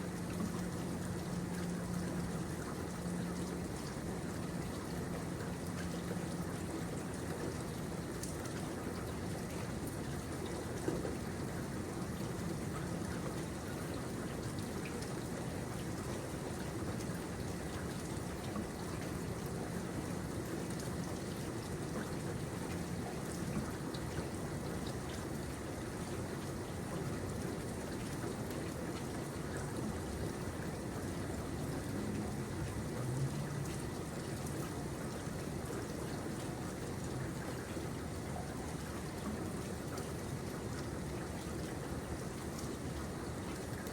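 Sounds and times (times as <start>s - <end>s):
raindrops ticking on surfaces: 0.1s - 43.9s
steady rain falling: 0.1s - 43.9s.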